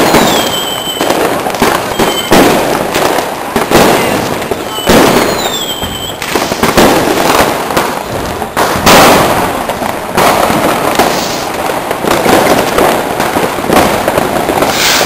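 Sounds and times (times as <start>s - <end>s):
fireworks going off: 0.0s - 15.0s
loud firework bangs: 0.0s - 15.0s.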